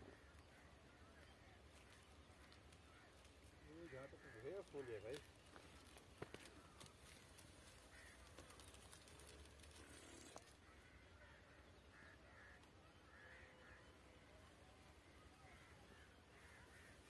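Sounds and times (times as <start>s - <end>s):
faint short bird calls: 0.0s - 17.0s.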